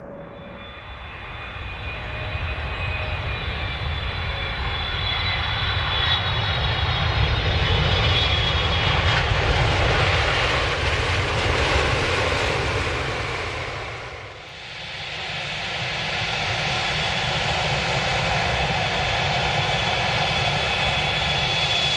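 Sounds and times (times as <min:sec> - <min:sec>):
jet airliner engines passing: 0:00.0 - 0:21.9.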